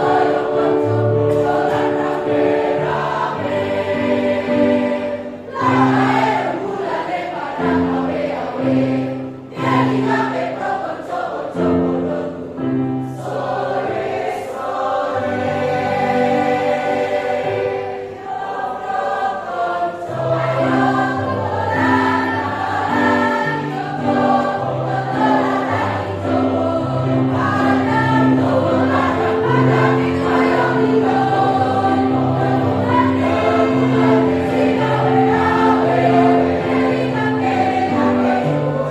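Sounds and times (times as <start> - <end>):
choir singing in parts: 0.0 - 38.9.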